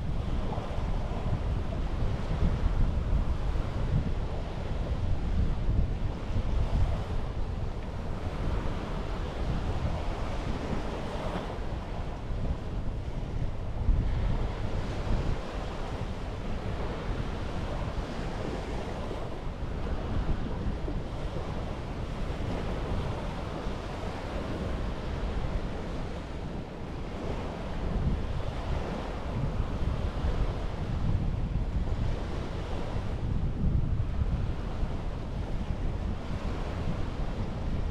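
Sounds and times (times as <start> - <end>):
sea waves washing onto beach: 0.0 - 37.9
wind rumbling on microphone: 0.0 - 37.9.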